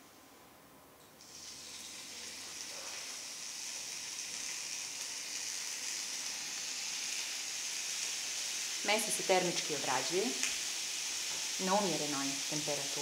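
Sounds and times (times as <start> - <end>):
meat sizzling in oil: 1.2 - 13.0.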